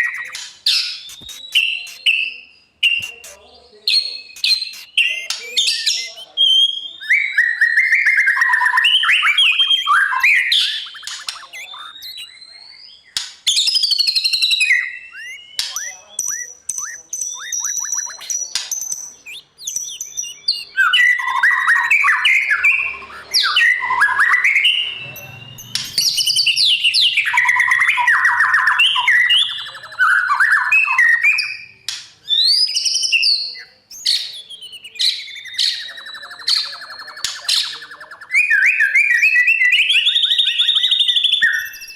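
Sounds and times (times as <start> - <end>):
shama singing whistles and trills: 0.0 - 41.9.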